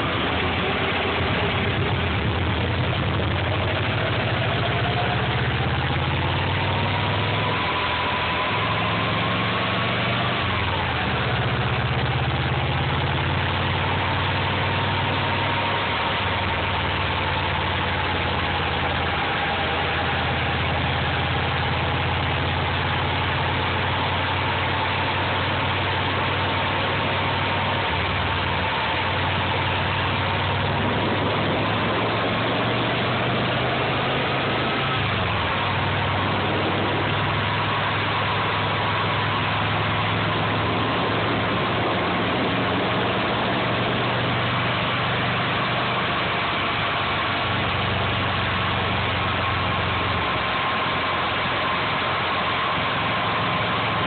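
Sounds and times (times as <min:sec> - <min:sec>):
car engine running: 0:00.0 - 0:54.0
thin whine: 0:00.0 - 0:54.0.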